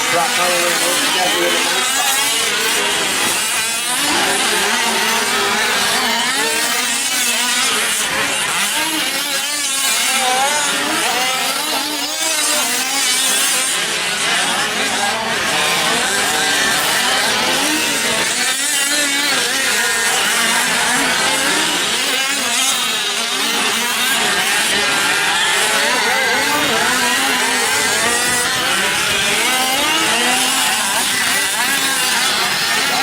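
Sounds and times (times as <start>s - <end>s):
rc truck engines buzzing and revving: 0.0s - 33.0s.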